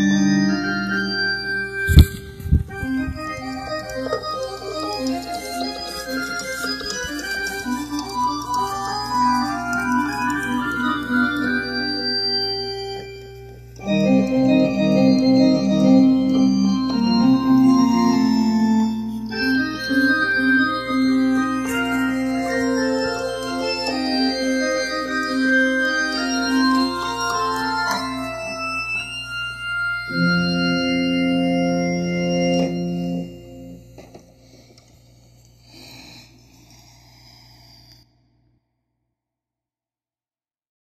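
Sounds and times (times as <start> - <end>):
organ-style keyboard chords: 0.0 - 34.7.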